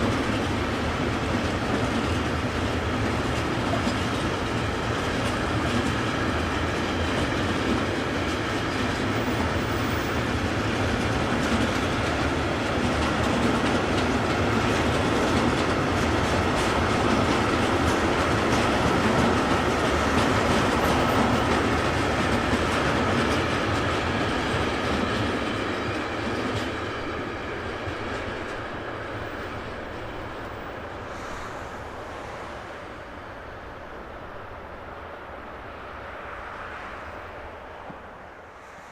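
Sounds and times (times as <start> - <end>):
train wheels clicking on rails: 0.0 - 35.4, 36.1 - 38.9.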